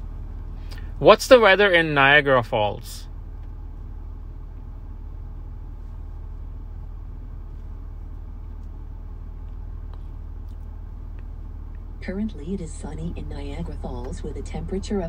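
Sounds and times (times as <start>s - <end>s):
low hum inside car cabin: 0.0s - 15.0s.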